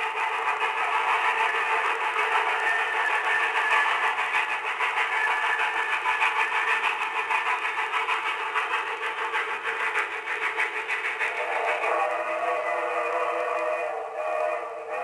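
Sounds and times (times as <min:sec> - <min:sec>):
steam locomotive passing: 0:00.0 - 0:15.0.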